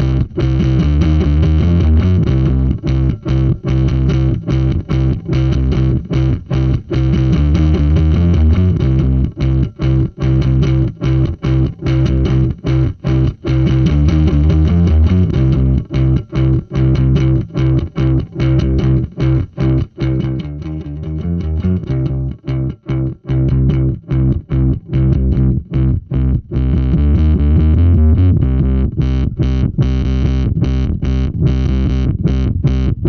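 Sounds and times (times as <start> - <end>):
distorted electric bass riff: 0.0 - 33.0.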